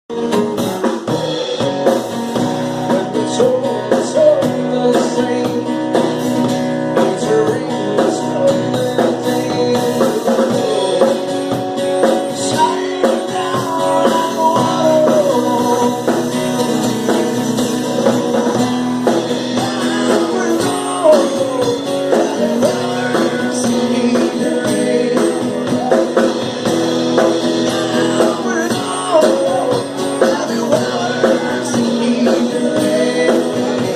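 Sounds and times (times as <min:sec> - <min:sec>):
guitar chords: 0:00.1 - 0:33.9
person singing: 0:00.1 - 0:33.9.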